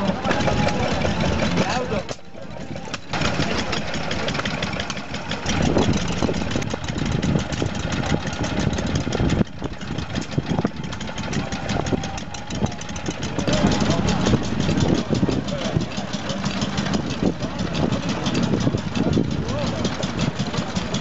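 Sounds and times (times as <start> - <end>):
stationary engine running: 0.0 - 21.0.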